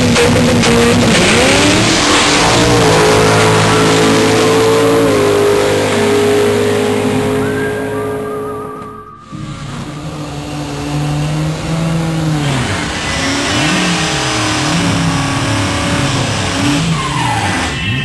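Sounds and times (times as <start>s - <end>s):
drag car engine revving: 0.0s - 18.0s.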